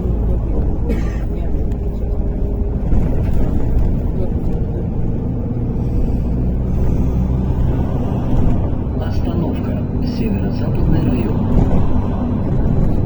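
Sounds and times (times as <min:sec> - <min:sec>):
bus engine and road rumble: 0:00.0 - 0:13.0
faint engine hum: 0:00.0 - 0:13.0.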